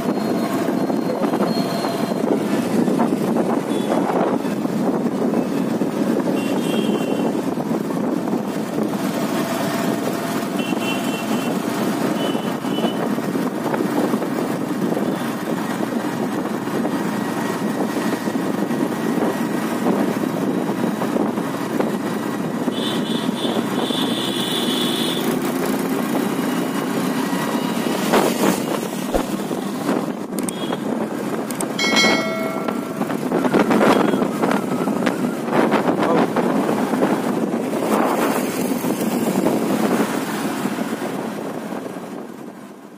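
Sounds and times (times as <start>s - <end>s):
wind rushing over microphone: 0.0s - 10.6s, 11.5s - 23.8s, 25.2s - 42.9s
passing traffic: 0.0s - 42.9s.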